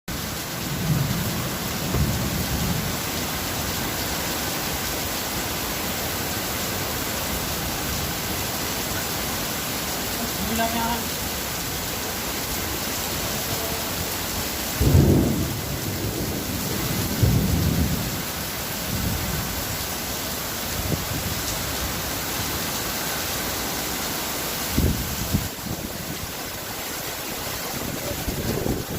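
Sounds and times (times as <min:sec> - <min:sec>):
heavy rain hissing: 0:00.1 - 0:28.9.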